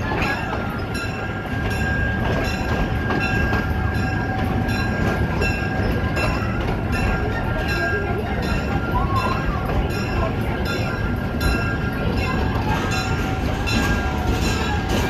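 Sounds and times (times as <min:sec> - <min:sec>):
train rumbling on track: 0:00.0 - 0:15.0
wheels clacking over rail joints: 0:00.0 - 0:15.0.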